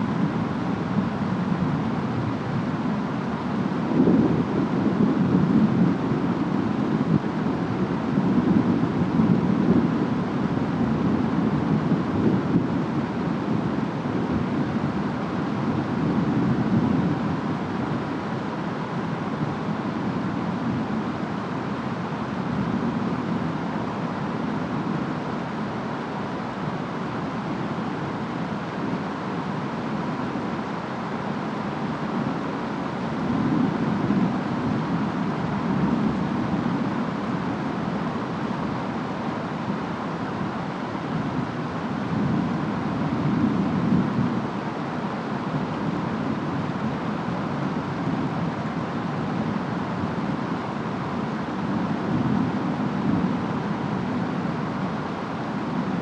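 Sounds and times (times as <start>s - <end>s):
steady rain: 0.0s - 56.0s
wind: 0.0s - 56.0s.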